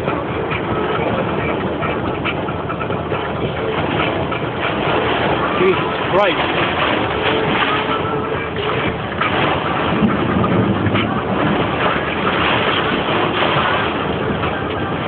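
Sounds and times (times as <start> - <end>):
heavy rain: 0.0 - 15.0
wind: 0.0 - 15.0.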